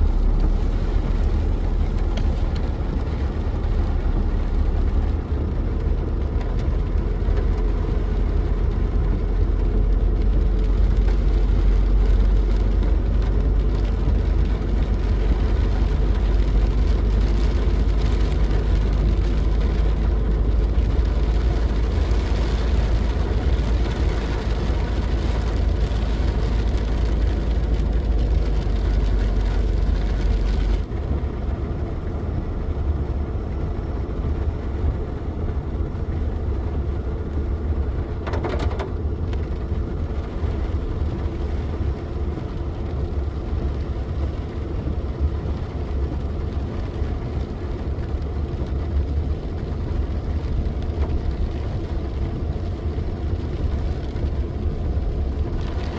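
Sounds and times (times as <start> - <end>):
car interior rumble: 0.0 - 55.9.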